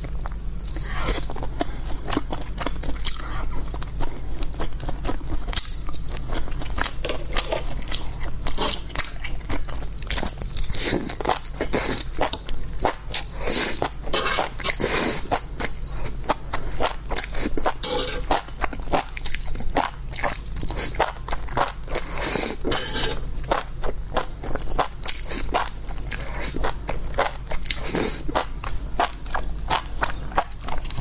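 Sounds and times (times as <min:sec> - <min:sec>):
crunchy food chewing: 0:00.0 - 0:31.0
steady low hum: 0:00.0 - 0:31.0.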